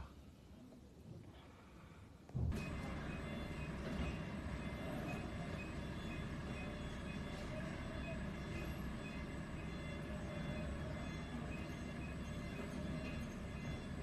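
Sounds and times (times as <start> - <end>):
heavy trucks rumbling: 2.5 - 14.0
faint high beep: 2.6 - 14.0.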